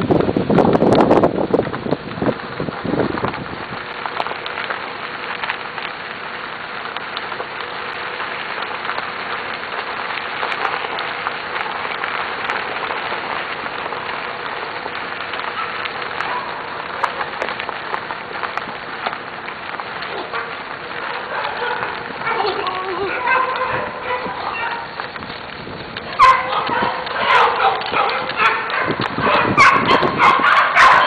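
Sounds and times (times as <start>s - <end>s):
faint crackles: 0.0s - 31.0s.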